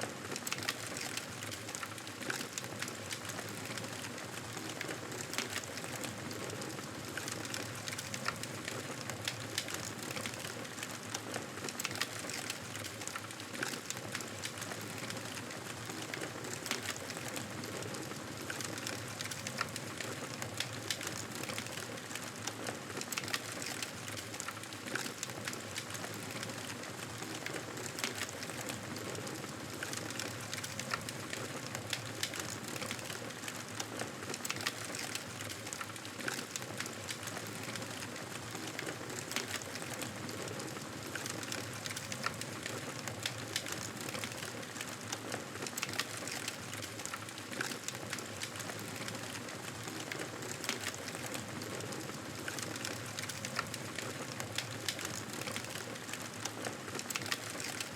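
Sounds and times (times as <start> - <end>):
wood fire crackling: 0.1 - 57.9.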